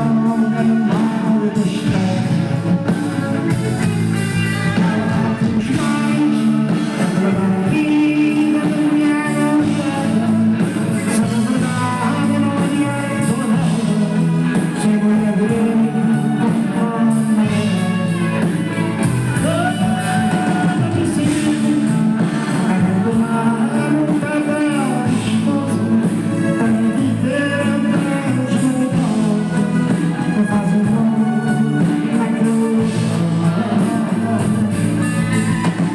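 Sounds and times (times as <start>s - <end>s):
live band playing: 0.0s - 35.9s
person singing: 0.0s - 35.9s.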